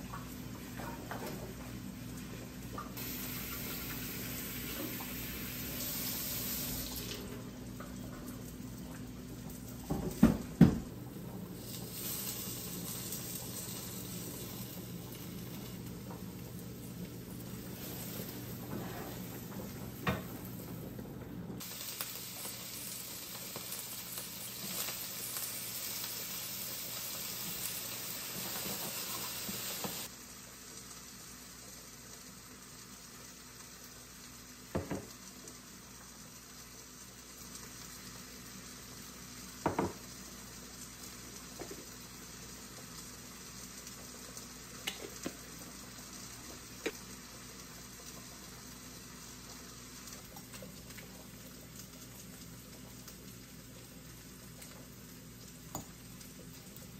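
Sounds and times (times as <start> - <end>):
pan sizzling: 0.0 - 56.9.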